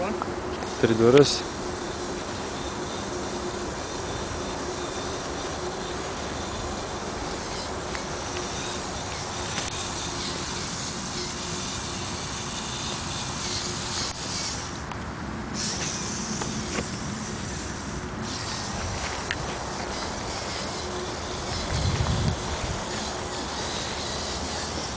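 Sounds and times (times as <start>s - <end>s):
small electric motors buzzing: 0.0s - 24.9s
steady hiss: 0.0s - 24.9s.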